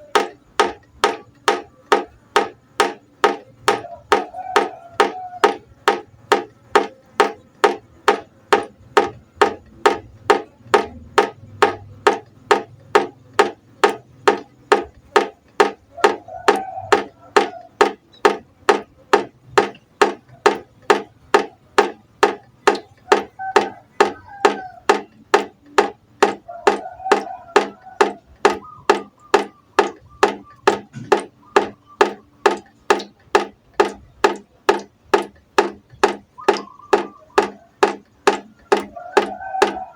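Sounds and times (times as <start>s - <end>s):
water drops plinking into pot: 0.1s - 39.9s.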